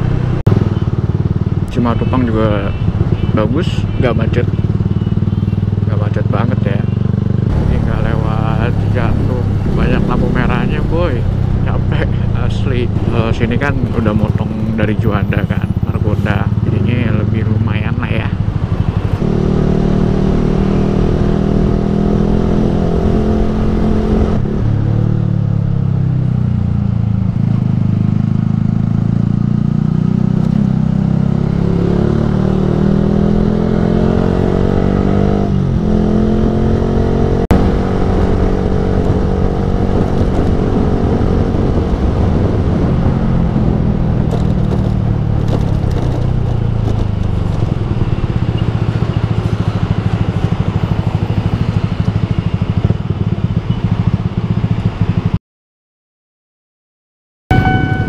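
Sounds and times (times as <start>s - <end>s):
motorcycle engine revving: 0.0s - 55.4s, 57.5s - 58.0s.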